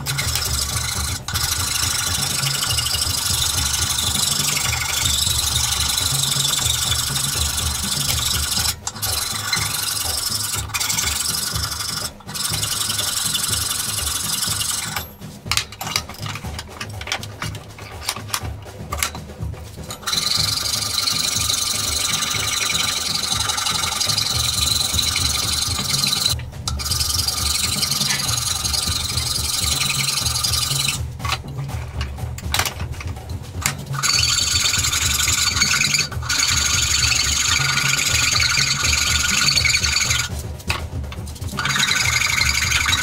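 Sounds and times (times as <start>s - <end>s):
scraping on wood: 0.0s - 43.0s.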